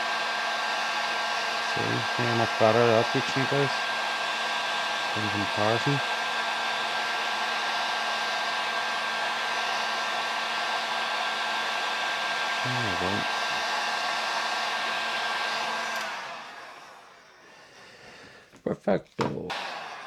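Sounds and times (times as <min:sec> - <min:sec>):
hot-air blower hissing: 0:00.0 - 0:18.6, 0:19.2 - 0:20.0.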